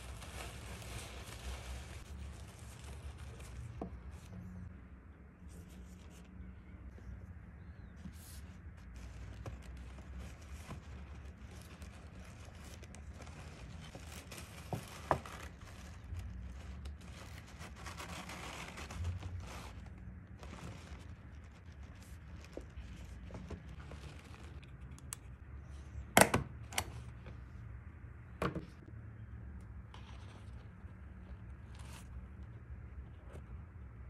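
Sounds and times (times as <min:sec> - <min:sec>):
paper rustling and crinkling: 0:00.0 - 0:04.7, 0:05.4 - 0:07.2, 0:07.8 - 0:26.0, 0:29.8 - 0:34.0.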